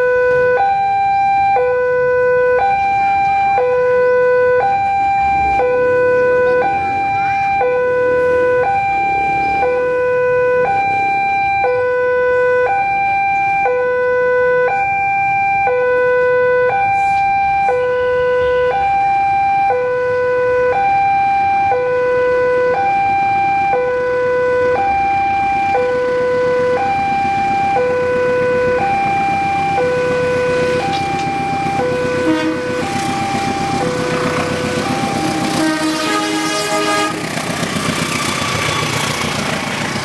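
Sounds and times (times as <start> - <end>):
two-tone railway warning alarm: 0.0 - 40.0.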